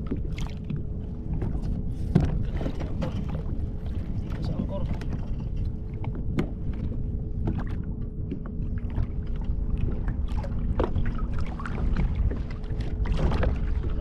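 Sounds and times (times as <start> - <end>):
water around kayak: 0.0 - 14.0
wind rumble on microphone: 0.0 - 14.0.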